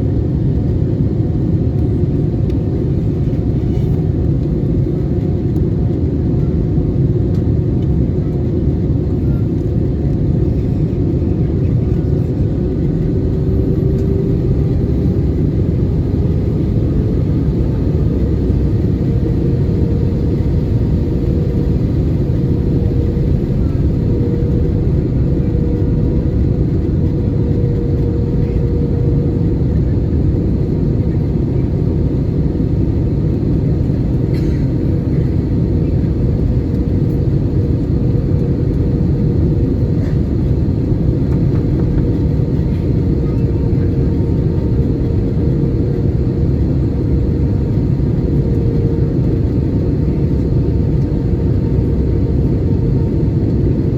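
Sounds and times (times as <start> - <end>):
airplane cabin engine and air noise: 0.0 - 53.9.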